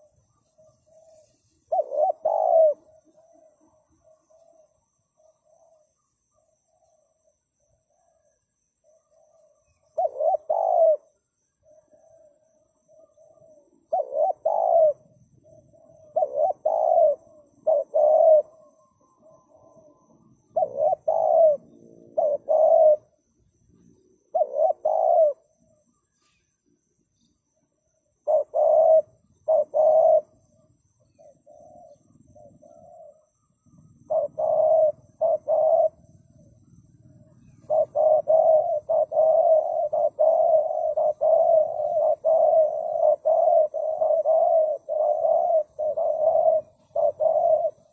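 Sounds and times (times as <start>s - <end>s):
dove cooing: 0.0s - 26.5s, 27.8s - 47.9s.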